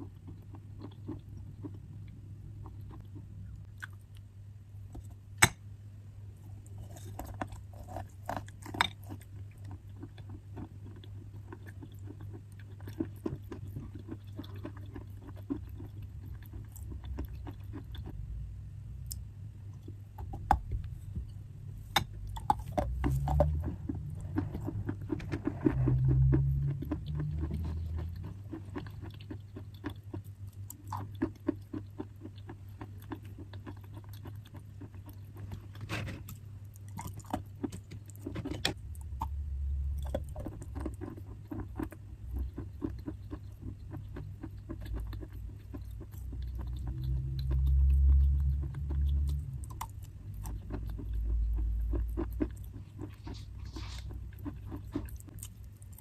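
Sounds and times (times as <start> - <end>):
chewing chalk crunching: 6.6 - 18.2, 22.1 - 56.0.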